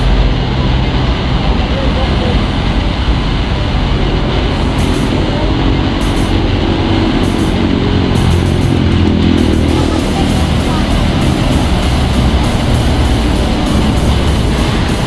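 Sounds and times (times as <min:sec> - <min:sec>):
wind and road rumble: 0:00.0 - 0:15.0
high hissing bursts: 0:00.8 - 0:15.0.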